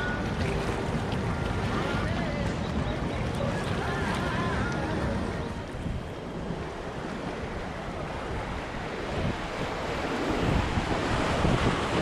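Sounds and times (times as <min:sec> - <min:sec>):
whitewater rushing: 0:00.0 - 0:12.0
wind buffeting microphone: 0:00.0 - 0:12.0.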